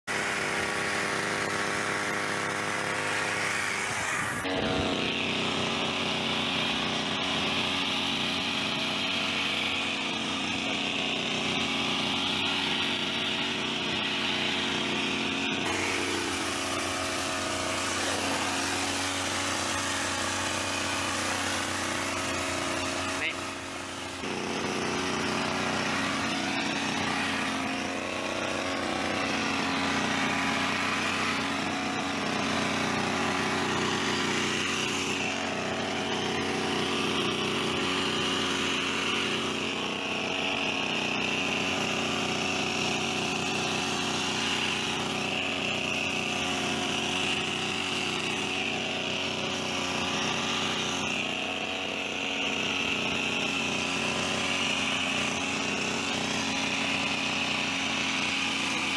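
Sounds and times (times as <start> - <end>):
hedge trimmer engine running: 0.0 - 58.9.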